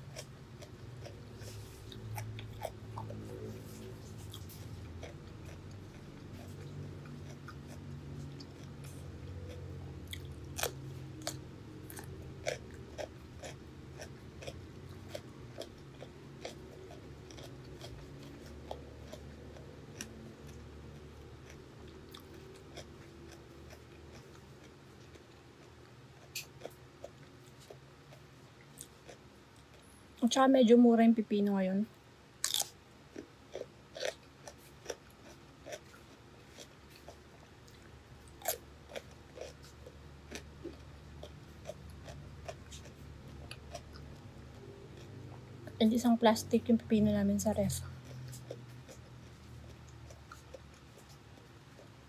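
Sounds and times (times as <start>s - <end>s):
crunchy food chewing: 0.0s - 30.0s, 32.4s - 45.8s, 47.7s - 52.0s.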